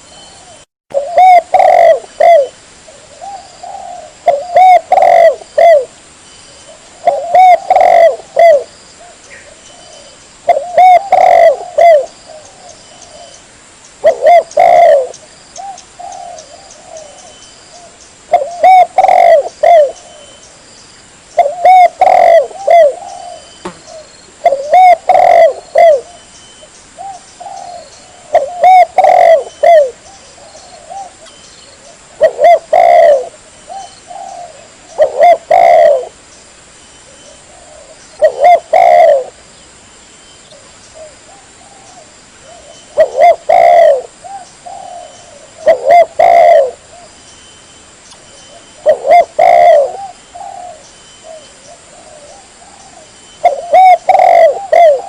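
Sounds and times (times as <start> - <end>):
dove cooing: 0.0 - 6.0, 6.6 - 13.4, 14.0 - 20.4, 21.4 - 26.3, 27.0 - 36.2, 37.2 - 39.4, 40.5 - 47.1, 48.5 - 55.0.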